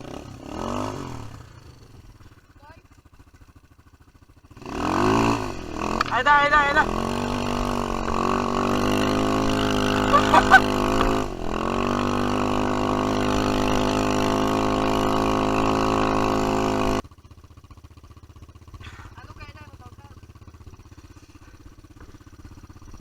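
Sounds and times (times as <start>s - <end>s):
quad bike engine running hard: 0.0s - 23.0s.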